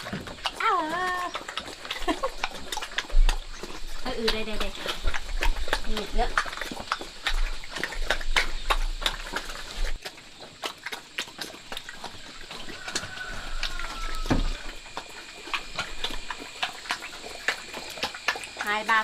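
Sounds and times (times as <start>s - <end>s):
pig eating wet feed: 0.0s - 19.0s.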